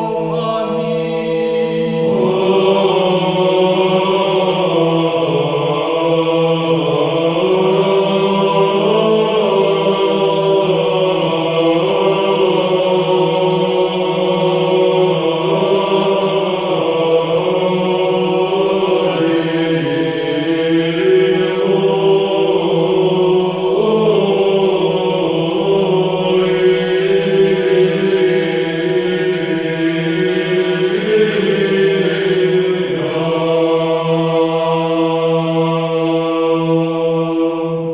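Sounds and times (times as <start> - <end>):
low voices chanting: 0.0 - 37.9.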